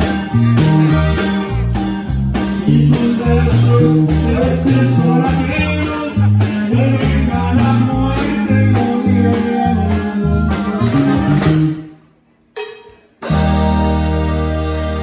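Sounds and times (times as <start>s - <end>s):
accordion: 0.0s - 11.9s, 13.2s - 15.0s
electric bass: 0.0s - 11.9s, 13.2s - 15.0s
guitar: 0.0s - 15.0s.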